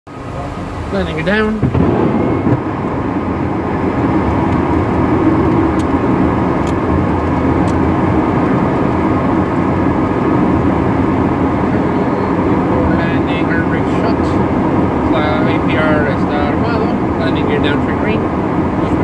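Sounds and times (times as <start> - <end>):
air rushing over cockpit: 0.1 - 19.0
jet engines droning: 0.1 - 19.0.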